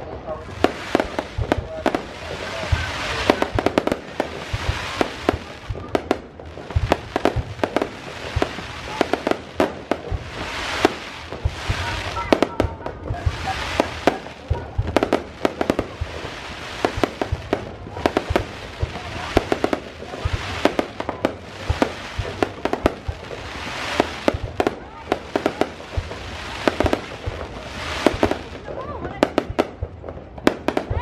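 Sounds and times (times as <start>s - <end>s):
fireworks bangs and pops: 0.0s - 31.0s
fireworks hissing crackle: 0.0s - 31.0s.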